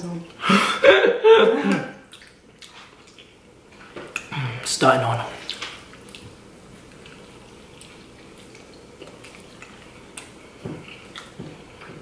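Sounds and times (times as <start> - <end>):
people chewing: 1.4 - 12.0.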